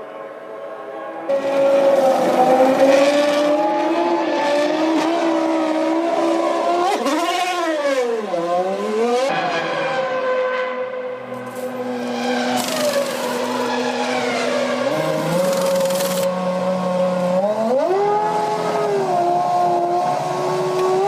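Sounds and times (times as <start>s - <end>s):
racing car engines at high revs: 1.3s - 21.0s.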